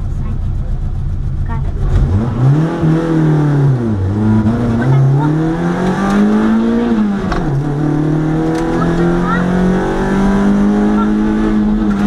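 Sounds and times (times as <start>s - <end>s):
race car engine accelerating: 1.4s - 12.0s.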